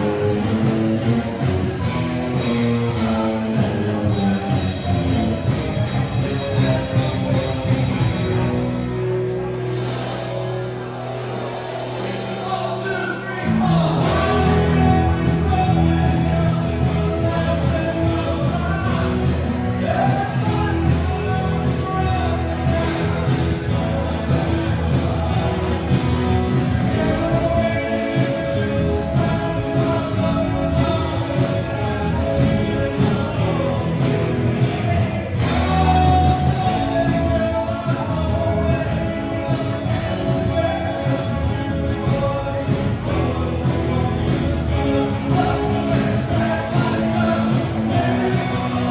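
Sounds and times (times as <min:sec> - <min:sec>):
live rock band playing: 0:00.0 - 0:48.9
person singing: 0:09.6 - 0:48.9.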